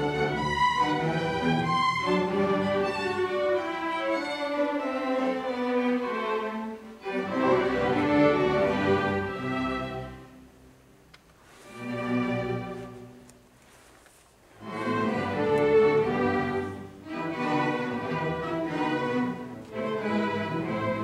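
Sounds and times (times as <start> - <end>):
solo violin: 0.0 - 10.5, 11.5 - 13.4, 14.6 - 21.0
orchestra strings: 0.0 - 21.0.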